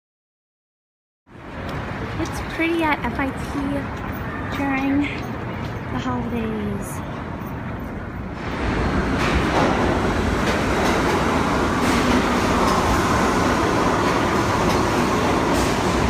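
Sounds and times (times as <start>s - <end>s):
subway train wheels rumbling: 1.3s - 16.0s.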